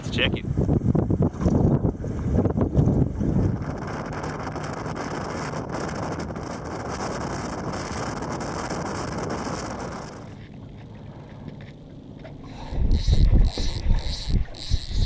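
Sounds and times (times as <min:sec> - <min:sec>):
wind buffeting microphone: 0:00.0 - 0:10.4, 0:12.5 - 0:15.0
boat motor running: 0:01.4 - 0:15.0.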